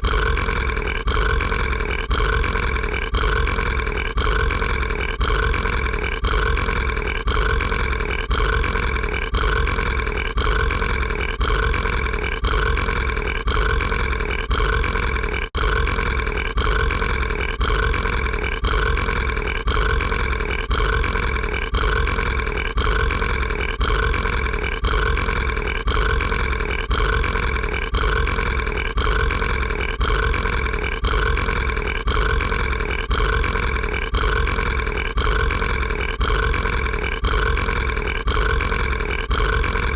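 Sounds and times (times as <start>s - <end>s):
looped monster burp: 0.0s - 39.9s.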